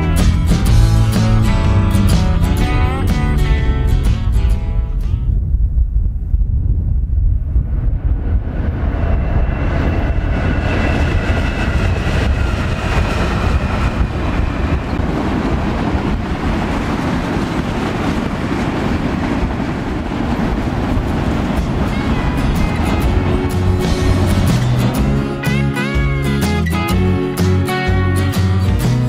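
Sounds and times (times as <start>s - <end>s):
freight train rumbling on rails: 0.0s - 29.0s.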